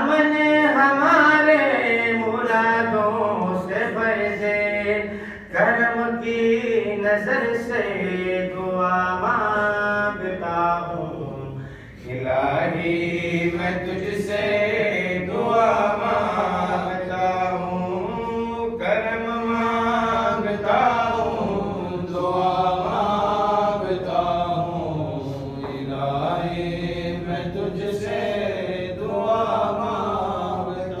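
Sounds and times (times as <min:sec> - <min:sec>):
person chanting mournful lament: 0:00.0 - 0:31.0.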